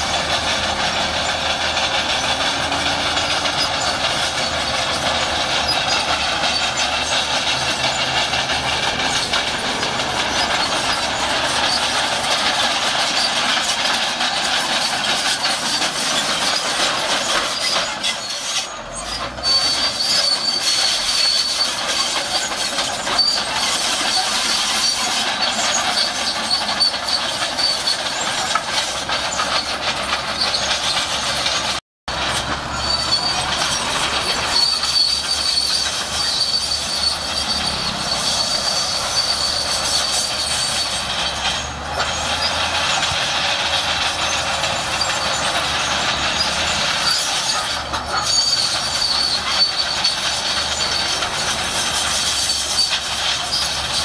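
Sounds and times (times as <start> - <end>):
bulldozer tracks squealing: 0.0 - 54.0
clanking rattle: 0.0 - 54.0.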